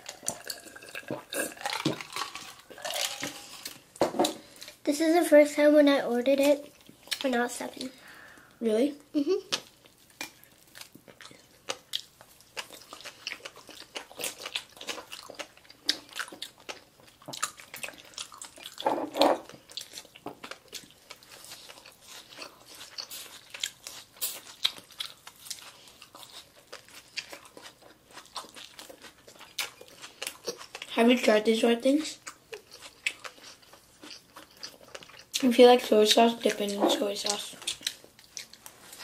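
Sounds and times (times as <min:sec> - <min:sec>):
chewing and crunching food: 0:00.0 - 0:04.8, 0:06.3 - 0:08.0, 0:09.4 - 0:39.0.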